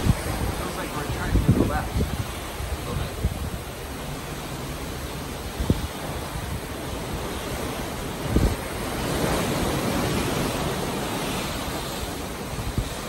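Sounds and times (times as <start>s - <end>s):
sea water rushing along hull: 0.0s - 13.0s
wind on microphone: 0.0s - 13.0s.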